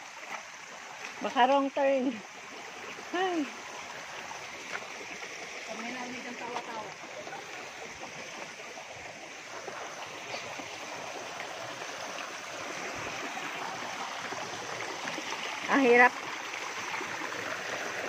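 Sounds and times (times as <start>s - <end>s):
stream flowing over boulders: 0.0s - 18.0s.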